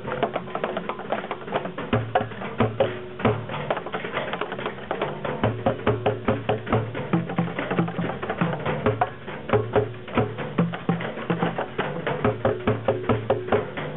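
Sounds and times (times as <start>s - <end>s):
low drum thuds: 1.7s - 13.9s.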